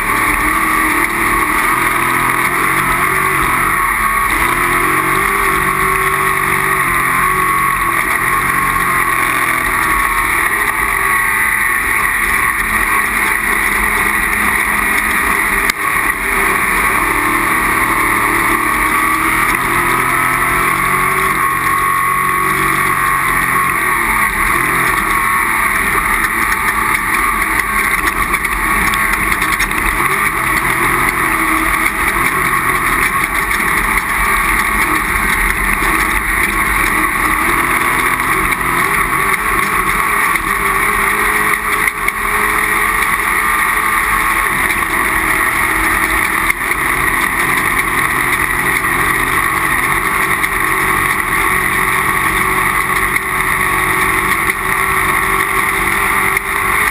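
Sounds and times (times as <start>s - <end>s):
race vehicle engine running hard: 0.0s - 56.9s.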